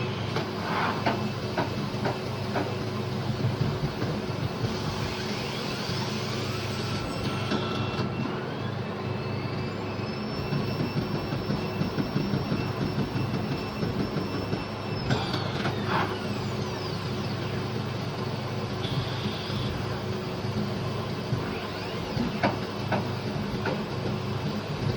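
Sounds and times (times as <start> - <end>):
high-pitched spindle whine: 3.5 - 24.9.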